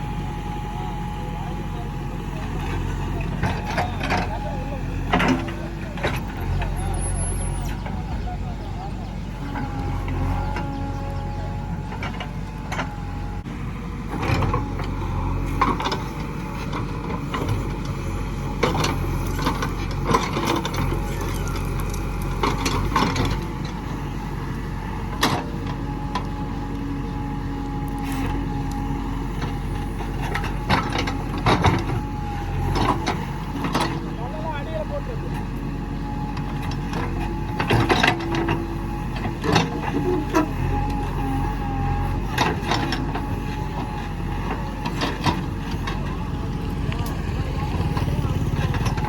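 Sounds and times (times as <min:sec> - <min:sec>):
backhoe diesel engine running: 0:00.0 - 0:49.0.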